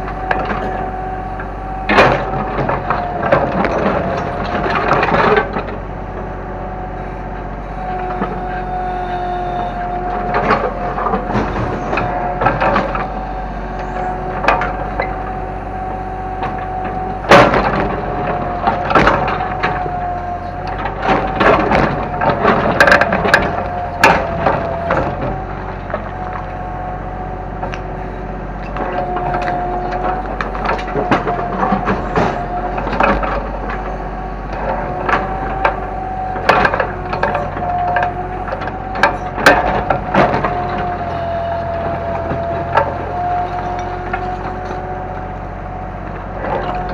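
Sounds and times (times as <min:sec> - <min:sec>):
excavator engine whine: 0:00.0 - 0:46.9.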